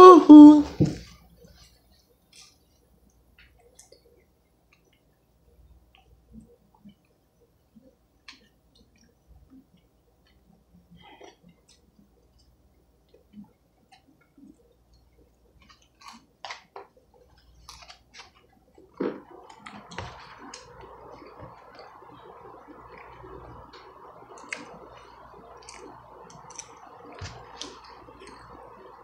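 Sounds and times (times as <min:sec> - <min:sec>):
steady hum: 0:00.0 - 0:29.0
man chewing and eating: 0:01.0 - 0:29.0.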